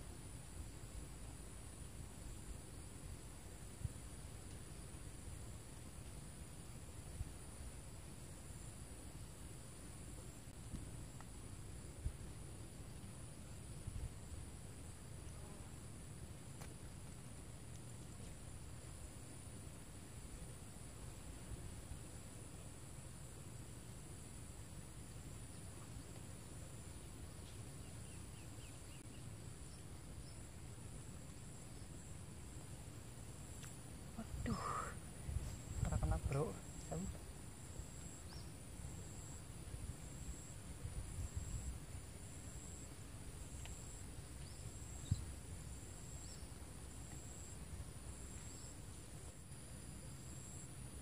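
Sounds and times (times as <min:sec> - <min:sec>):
insects trilling: 0:06.2 - 0:51.0.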